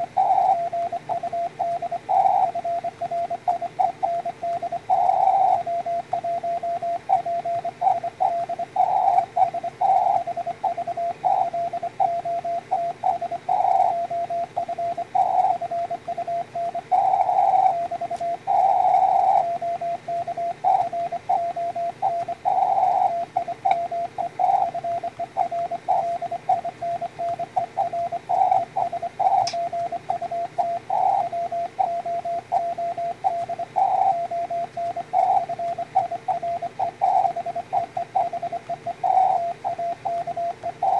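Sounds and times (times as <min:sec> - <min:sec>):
faint radio hiss: 0:00.0 - 0:40.9
morse code tone: 0:00.0 - 0:40.9.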